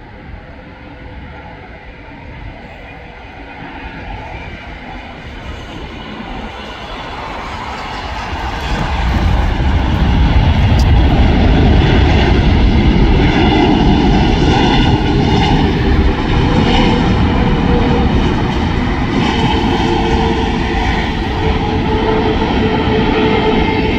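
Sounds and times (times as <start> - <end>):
jet engines reverse thrust roar: 0.0 - 23.9.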